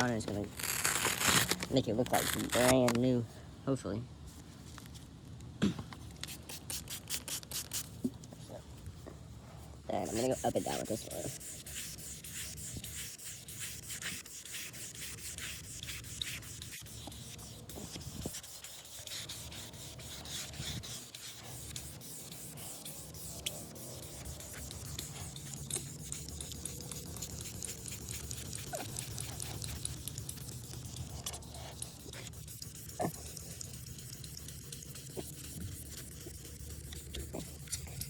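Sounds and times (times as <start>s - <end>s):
sandpaper rasping on plastic: 0.0s - 2.9s, 6.2s - 7.9s, 9.9s - 38.0s.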